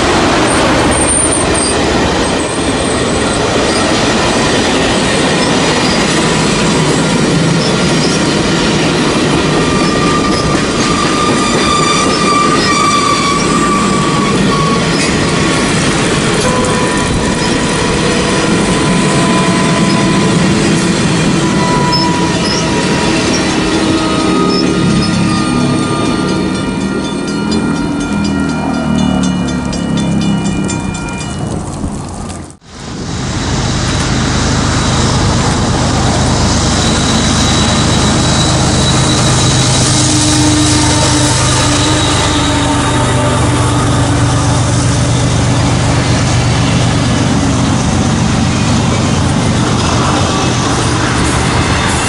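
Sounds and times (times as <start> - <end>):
high wheel squeal: 0.0 - 31.6, 33.9 - 52.0
diesel locomotive engine drone: 0.0 - 52.0
train wheels rumbling on rail: 0.0 - 52.0.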